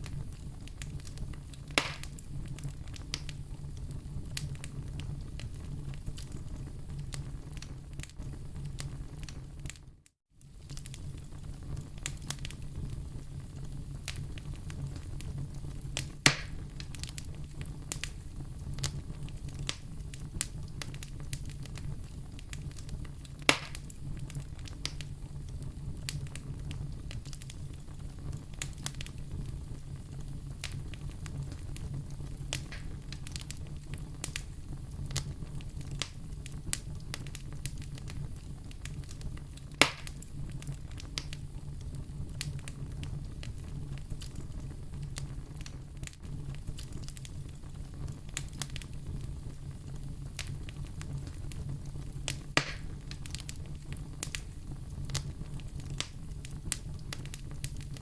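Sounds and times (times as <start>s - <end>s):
loud fire pops: 0.0s - 9.9s, 10.5s - 58.0s
wood fire crackling: 0.0s - 58.0s.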